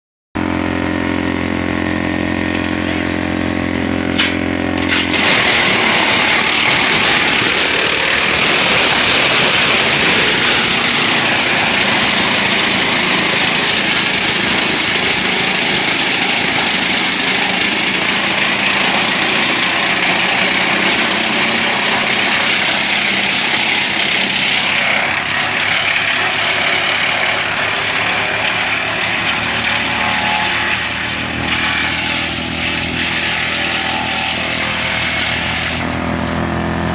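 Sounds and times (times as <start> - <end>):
diesel engine running: 0.4 - 36.9.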